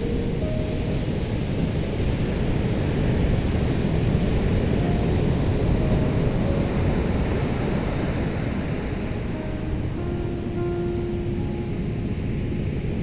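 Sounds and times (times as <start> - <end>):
waves breaking: 0.0 - 13.0.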